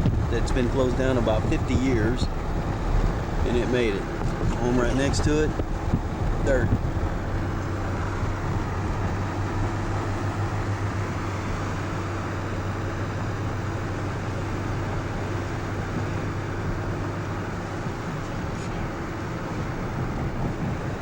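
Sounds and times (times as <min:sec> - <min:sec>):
car driving road noise: 0:00.0 - 0:21.0.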